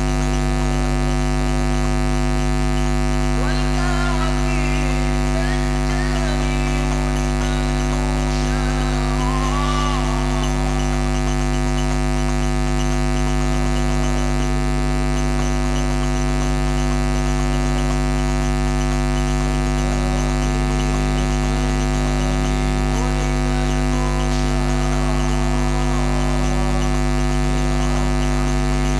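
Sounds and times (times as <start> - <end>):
electrical mains hum: 0.0 - 28.9
faint wavering tones: 0.0 - 28.9.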